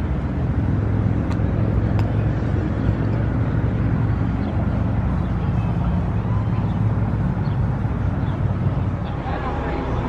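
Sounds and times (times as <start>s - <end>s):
engine idling drone: 0.0s - 10.0s.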